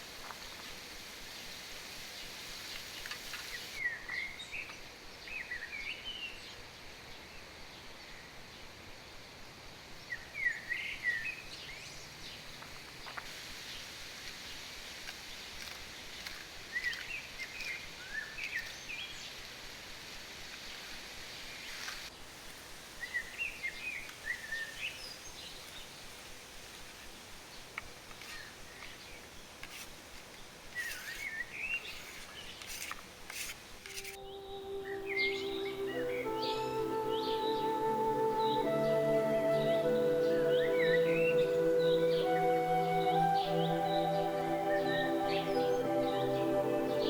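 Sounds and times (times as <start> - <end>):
songbird chirping: 0.0 - 19.6, 23.0 - 47.0
steady outdoor hiss: 0.0 - 47.0.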